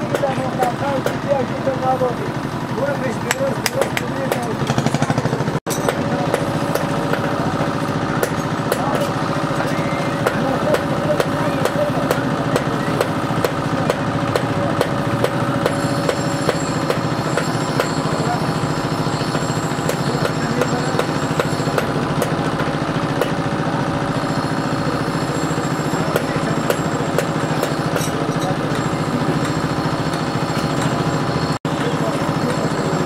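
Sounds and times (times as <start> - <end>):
machine pulsing steadily: 0.0 - 33.0.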